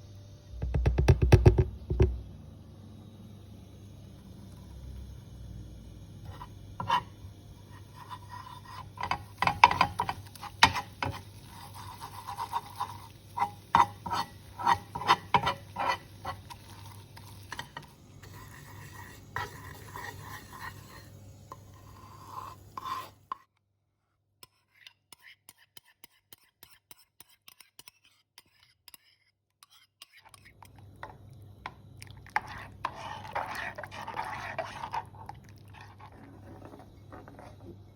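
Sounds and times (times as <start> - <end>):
spoon scraping metal pot: 6.2 - 23.5, 24.4 - 37.9.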